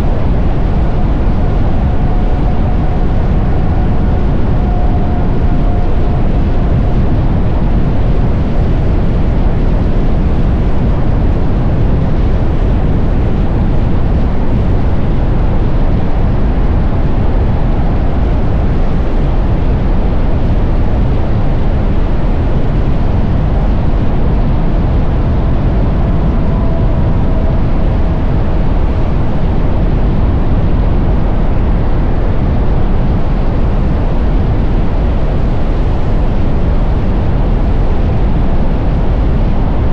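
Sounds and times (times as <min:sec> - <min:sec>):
wind rush and road noise: 0:00.0 - 0:39.9.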